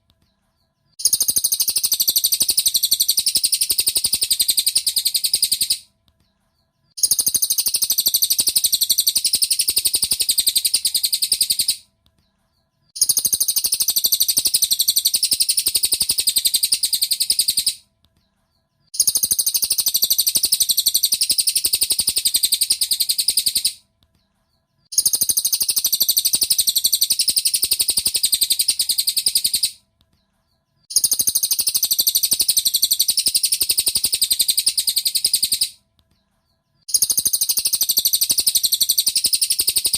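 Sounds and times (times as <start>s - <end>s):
bird twittering: 1.0s - 5.9s, 7.0s - 11.8s, 12.9s - 17.8s, 19.0s - 23.8s, 24.9s - 29.8s, 30.9s - 35.8s, 36.8s - 39.9s.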